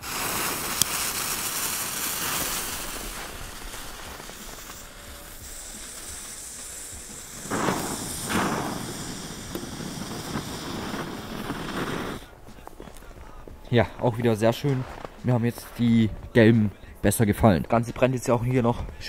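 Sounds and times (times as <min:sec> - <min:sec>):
ground fountain fireworks hissing: 0:00.0 - 0:16.9.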